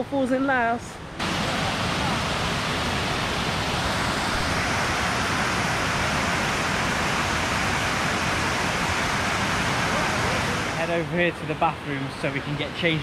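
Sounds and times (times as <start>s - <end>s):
waterfall rushing: 1.1s - 13.0s.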